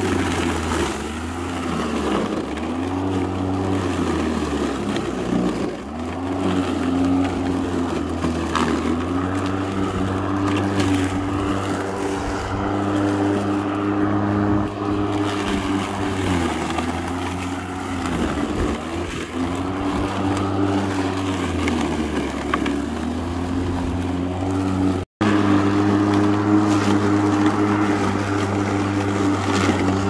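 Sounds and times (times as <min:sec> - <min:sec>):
lawn mower cutting grass: 0:00.0 - 0:30.0.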